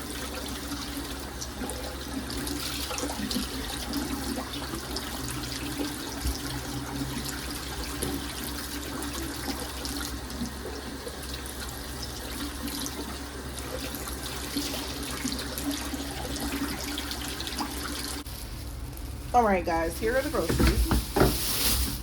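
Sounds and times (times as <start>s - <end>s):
tap water running into sink: 0.0s - 18.2s.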